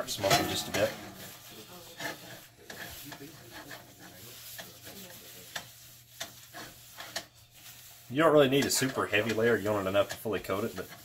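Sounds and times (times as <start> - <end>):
paper towel rubbing skillet: 0.0 - 11.0.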